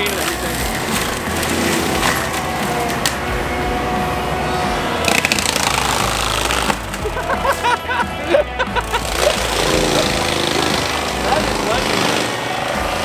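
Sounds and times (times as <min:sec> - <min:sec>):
diesel engine running hard: 0:00.0 - 0:13.0
forestry mulcher grinding wood: 0:00.0 - 0:13.0
steady whine: 0:00.0 - 0:13.0.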